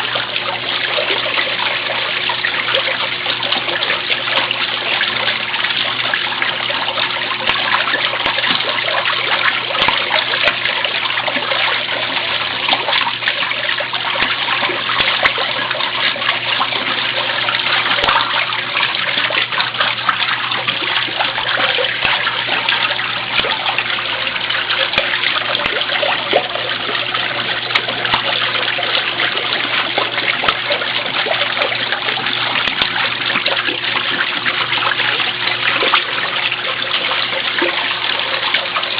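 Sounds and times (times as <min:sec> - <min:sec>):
water splashing in washing machine: 0:00.0 - 0:38.9.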